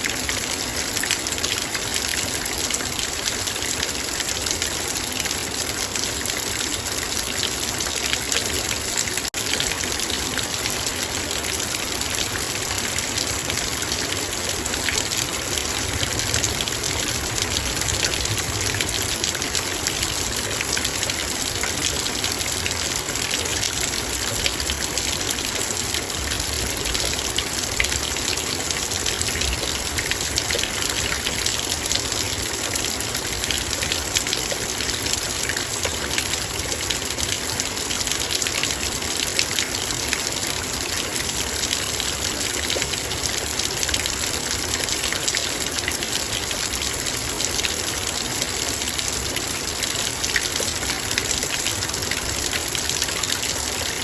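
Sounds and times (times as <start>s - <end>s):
rain drops striking a metal bowl: 0.0s - 54.0s.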